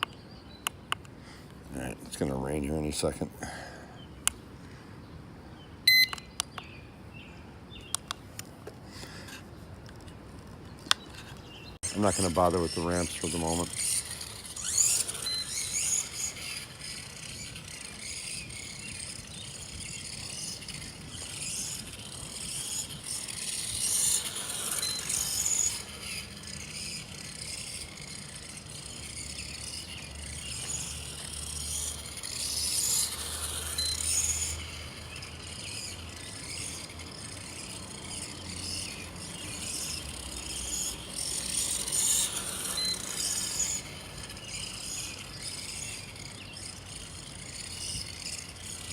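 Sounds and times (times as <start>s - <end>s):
toy car electric motor whirring: 9.0s - 48.9s.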